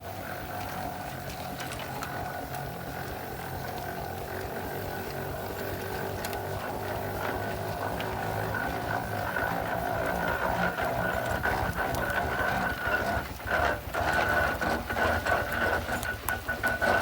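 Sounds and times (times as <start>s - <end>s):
steam engine mechanical hum: 0.0s - 17.0s.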